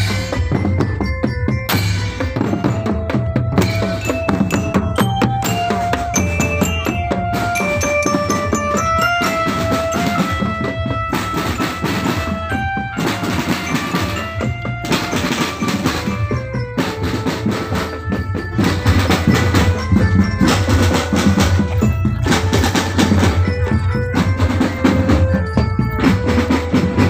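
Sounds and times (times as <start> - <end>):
marching drum band playing: 0.0 - 27.0.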